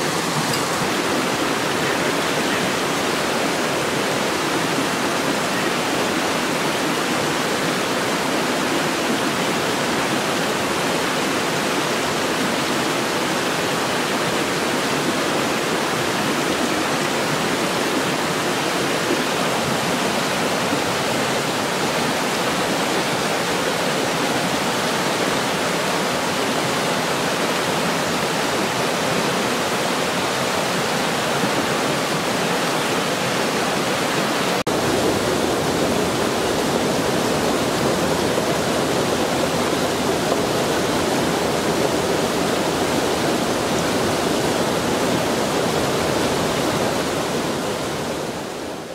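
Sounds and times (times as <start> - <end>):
river rushing over rocks: 0.0 - 48.9.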